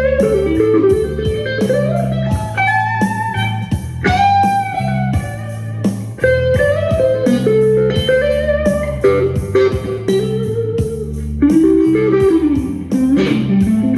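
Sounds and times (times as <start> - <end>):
bluesy electric guitar music: 0.0 - 13.9.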